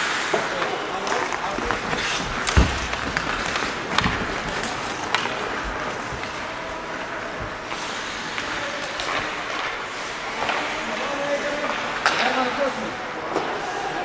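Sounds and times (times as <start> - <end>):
skates scraping on ice: 0.0 - 14.0
sticks clacking on puck: 0.2 - 6.6, 7.4 - 12.7.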